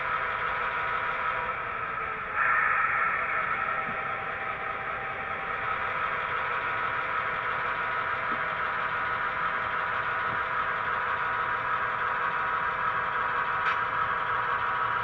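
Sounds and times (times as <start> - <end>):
model locomotive diesel engine sound: 0.0 - 15.0.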